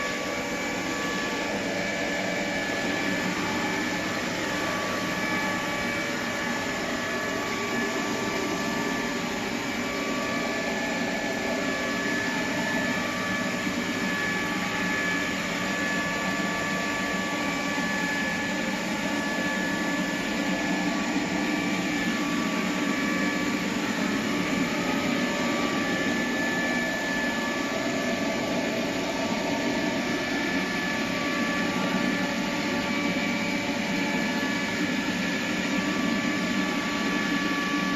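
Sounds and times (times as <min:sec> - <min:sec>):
robot vacuum cleaner running: 0:00.0 - 0:37.9.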